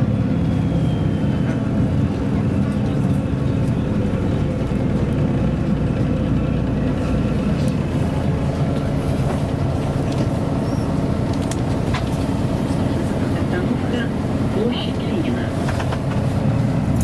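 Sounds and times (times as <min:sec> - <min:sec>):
diesel bus engine drone: 0:00.0 - 0:17.0
road rumble: 0:00.0 - 0:17.0.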